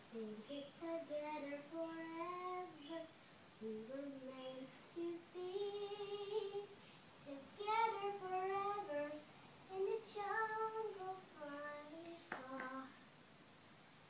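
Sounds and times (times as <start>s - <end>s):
girl singing: 0.1s - 13.0s.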